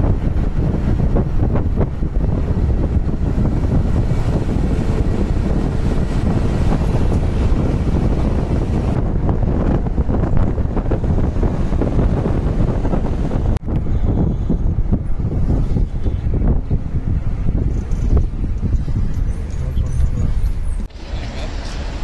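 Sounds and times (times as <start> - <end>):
bus engine and road rumble: 0.0 - 22.0
wind buffeting microphone: 0.0 - 22.0.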